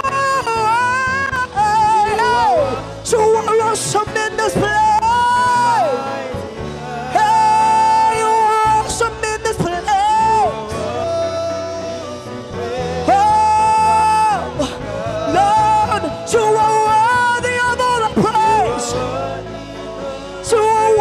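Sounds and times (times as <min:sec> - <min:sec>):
band accompaniment: 0:00.0 - 0:21.0.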